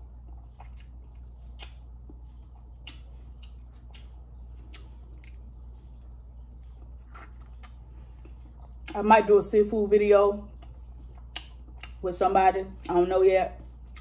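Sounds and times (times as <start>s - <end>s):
wet chewing sounds: 0.0s - 9.2s, 10.4s - 14.0s
low steady hum: 0.0s - 14.0s.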